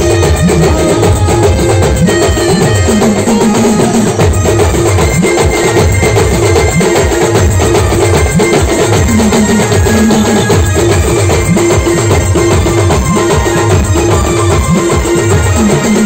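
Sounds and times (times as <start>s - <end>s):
steady drumming: 0.0s - 16.0s.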